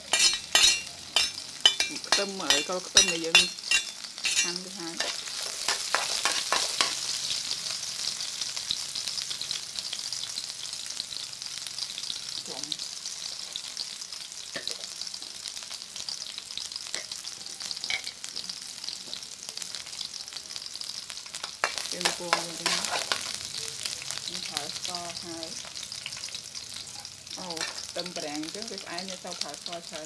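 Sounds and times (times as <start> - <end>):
aromatics sizzling in a wok: 0.0 - 30.0.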